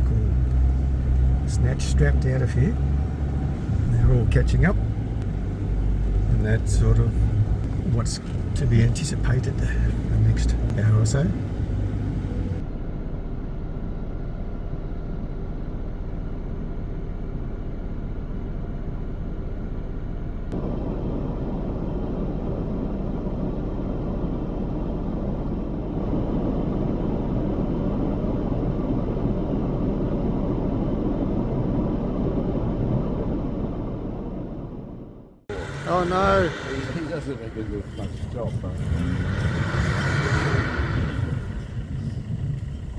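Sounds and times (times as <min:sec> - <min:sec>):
off-road vehicle engine rumbling: 0:00.0 - 0:42.9.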